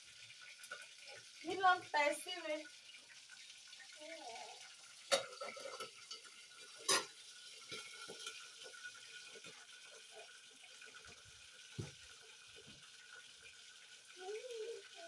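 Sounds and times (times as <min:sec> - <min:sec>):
pot of water hissing on burner: 0:00.0 - 0:15.0.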